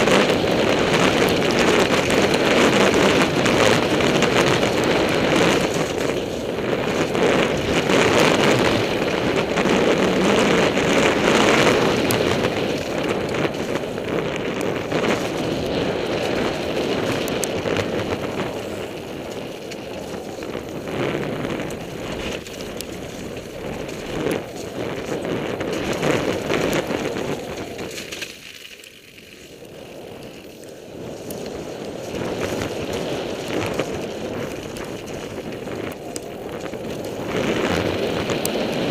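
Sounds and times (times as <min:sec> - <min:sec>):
bike rattling over bumps: 0:00.0 - 0:38.9
bike tyres on dirt: 0:00.0 - 0:38.9
wind buffeting microphone: 0:00.0 - 0:38.9.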